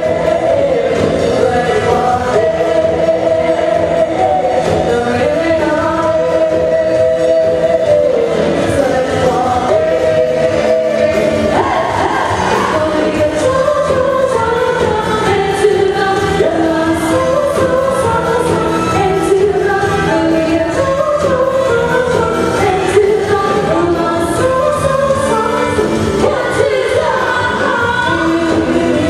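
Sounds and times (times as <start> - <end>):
live pop band playing: 0.0 - 29.0
women singing together: 0.0 - 29.0.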